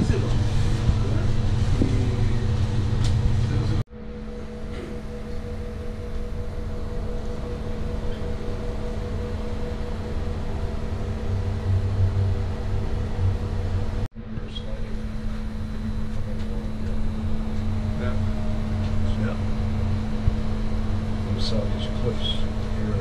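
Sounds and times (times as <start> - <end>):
ship engine rumble and hum: 0.0 - 23.0.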